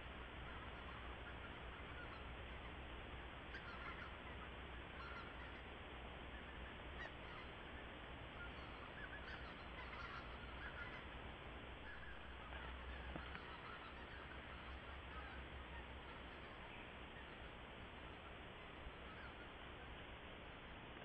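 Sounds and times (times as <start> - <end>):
distant geese honking: 0.0 - 20.3
background hiss: 0.0 - 21.0.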